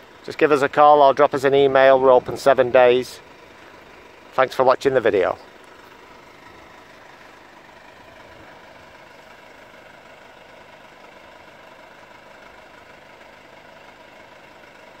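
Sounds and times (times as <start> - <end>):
faint vehicle engine idling: 0.0 - 15.0.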